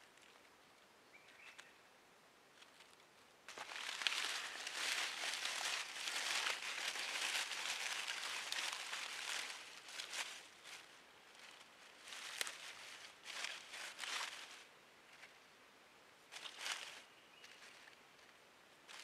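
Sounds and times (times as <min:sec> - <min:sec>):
dry leaves crackling: 0:02.6 - 0:15.4, 0:16.3 - 0:19.0.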